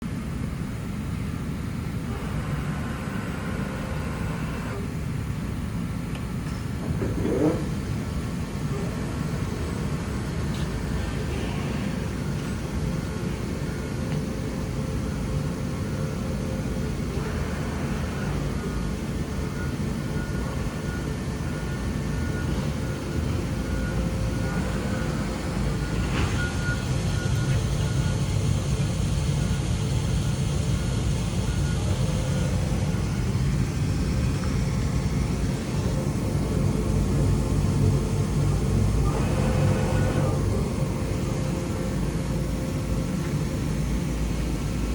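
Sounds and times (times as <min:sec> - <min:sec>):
machinery low rumble: 0:00.0 - 0:44.9
faint steady tone: 0:08.7 - 0:44.9.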